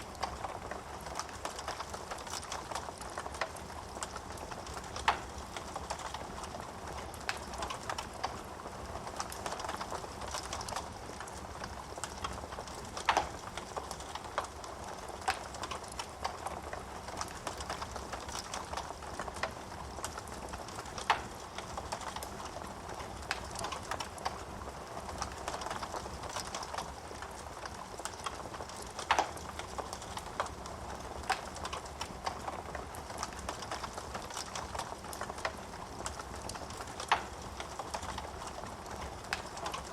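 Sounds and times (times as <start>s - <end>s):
fire hissing and crackling: 0.0s - 39.9s.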